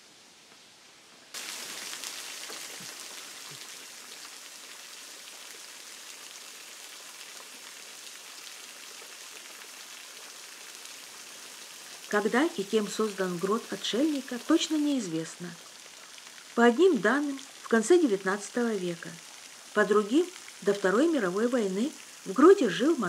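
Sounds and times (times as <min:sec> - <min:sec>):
water trickling and dripping: 0:01.3 - 0:23.0.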